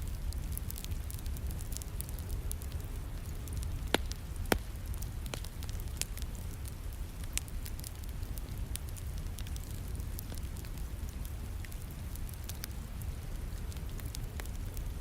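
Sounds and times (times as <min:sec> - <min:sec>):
rain: 0:00.0 - 0:15.0
wood fire crackling and popping: 0:00.0 - 0:15.0.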